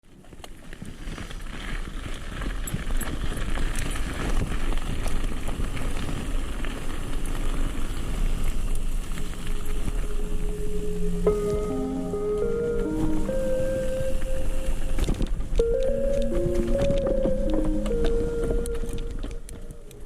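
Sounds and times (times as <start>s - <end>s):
bike tyres on dirt trail: 0.0s - 20.0s
wind rumble on microphone: 0.1s - 20.0s.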